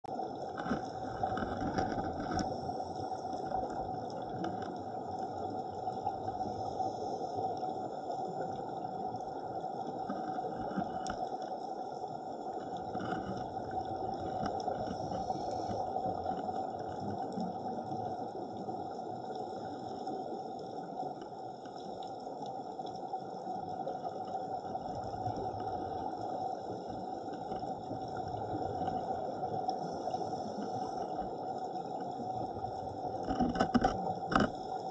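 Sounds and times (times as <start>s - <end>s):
underwater water noise: 0.0s - 34.9s.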